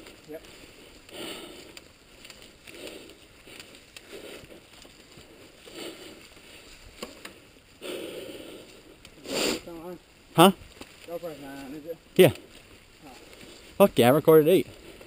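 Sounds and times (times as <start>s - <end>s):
bike tires crunching leaves: 0.0s - 15.0s.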